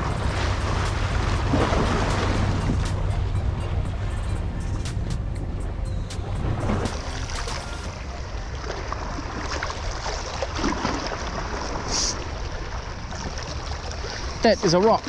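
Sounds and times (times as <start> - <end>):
wind on microphone: 0.0 - 14.4.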